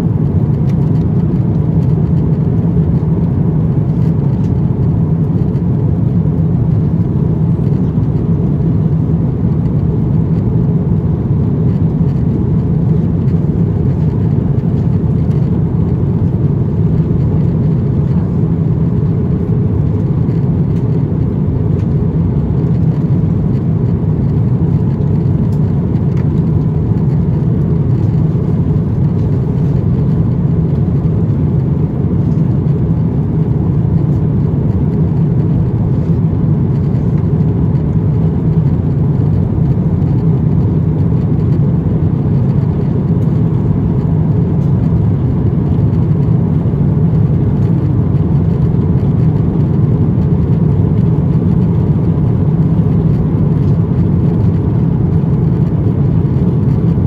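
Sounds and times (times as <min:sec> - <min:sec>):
airplane cabin rumble: 0:00.0 - 0:57.0
jet engines: 0:00.0 - 0:57.0.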